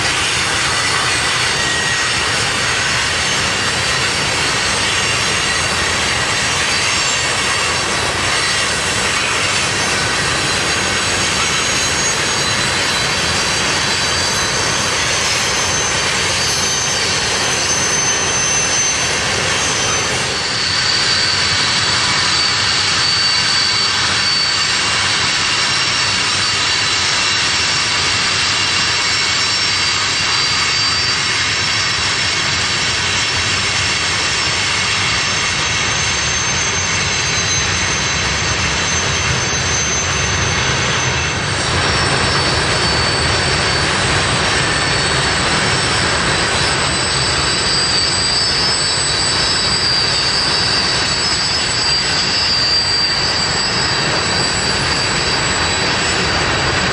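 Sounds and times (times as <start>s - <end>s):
high-pitched whines: 0.0s - 56.9s
train wheels rumbling on rail: 0.0s - 56.9s.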